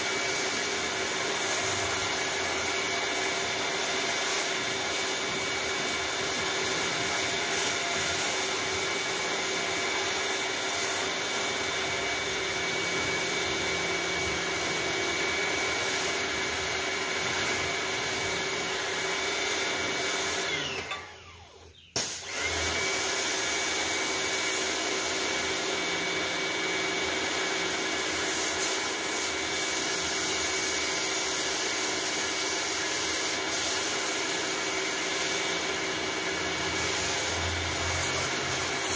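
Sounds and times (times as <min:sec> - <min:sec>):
high-pressure water jet hissing: 0:00.0 - 0:12.0, 0:12.7 - 0:20.8, 0:27.7 - 0:38.9
pressure washer motor whine: 0:00.0 - 0:38.9.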